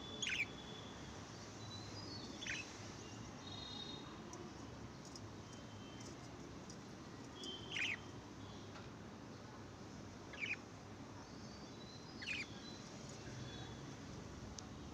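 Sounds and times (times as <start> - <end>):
low steady hiss: 0.0 - 14.9.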